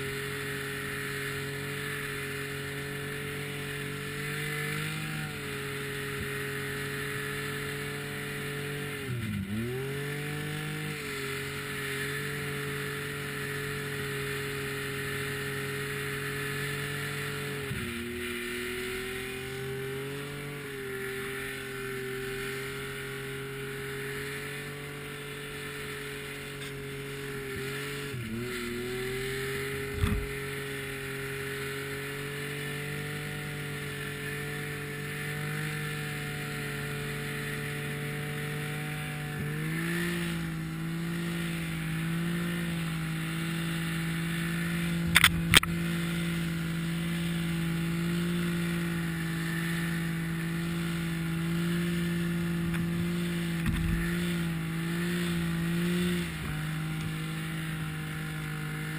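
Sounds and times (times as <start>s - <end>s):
snowmobile engine running: 0.0s - 58.9s.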